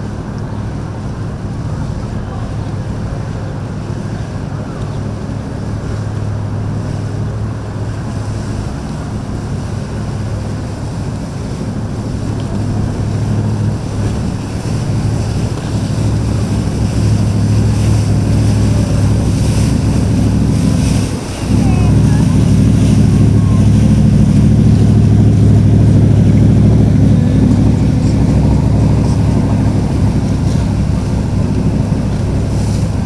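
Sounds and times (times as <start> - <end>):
boat engines droning: 0.0 - 33.0
water noise: 0.0 - 33.0
wind: 0.0 - 33.0.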